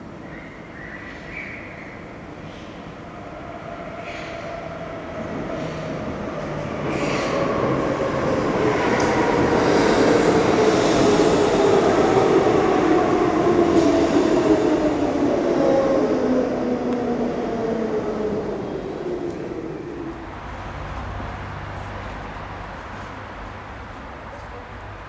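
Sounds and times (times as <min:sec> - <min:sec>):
train wheels on rails: 0:03.7 - 0:24.6.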